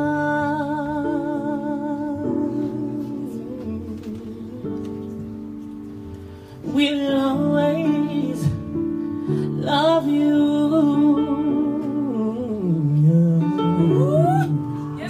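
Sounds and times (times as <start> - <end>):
man singing into a microphone: 0.0 - 5.3, 6.6 - 15.0.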